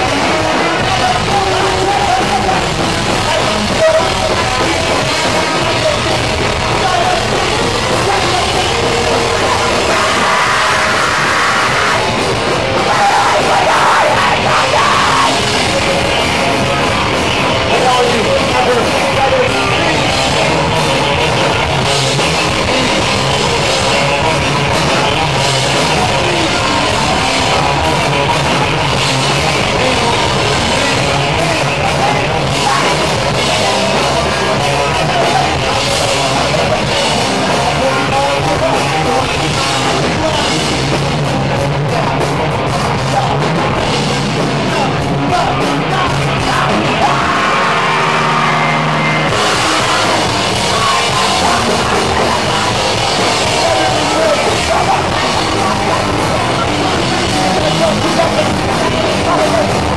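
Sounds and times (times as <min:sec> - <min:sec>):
drum kit with cymbals: 0:00.0 - 0:48.4, 0:49.0 - 0:59.9
electric guitar: 0:00.0 - 0:59.9.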